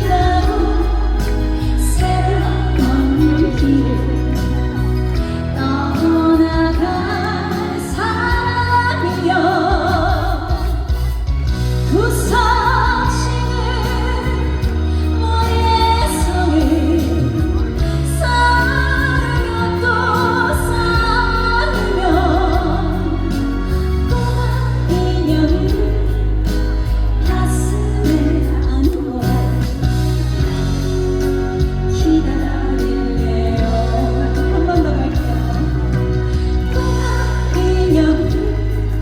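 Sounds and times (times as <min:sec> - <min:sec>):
amplified backing track: 0:00.0 - 0:39.0
woman singing a pop ballad: 0:00.0 - 0:39.0.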